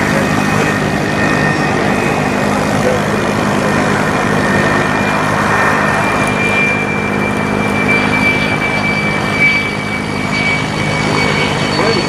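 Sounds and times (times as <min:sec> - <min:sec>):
aircraft engine running: 0:00.0 - 0:12.0
high steady whine: 0:00.0 - 0:12.0.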